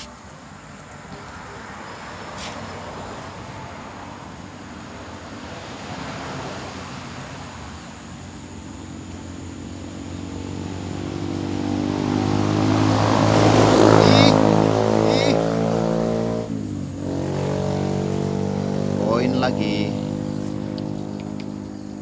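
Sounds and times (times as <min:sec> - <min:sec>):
approaching vehicle engine hum: 0:00.0 - 0:22.0
road traffic passing: 0:00.0 - 0:22.0.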